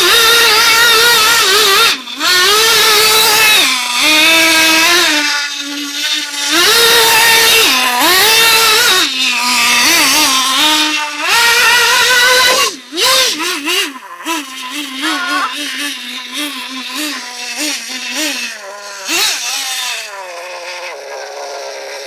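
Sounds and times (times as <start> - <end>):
rc car engine revving: 0.0 - 22.0.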